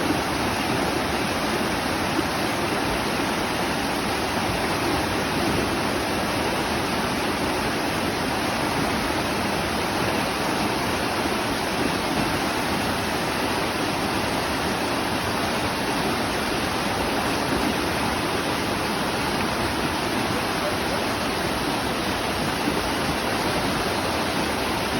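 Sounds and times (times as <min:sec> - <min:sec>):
water rushing: 0:00.0 - 0:24.9.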